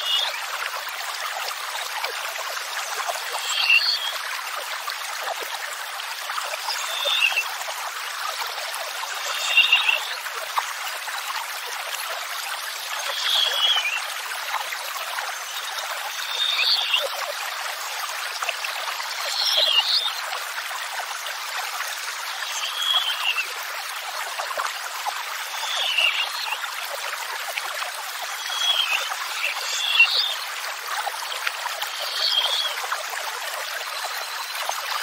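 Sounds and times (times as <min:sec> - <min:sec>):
running water rushing: 0:00.0 - 0:35.0.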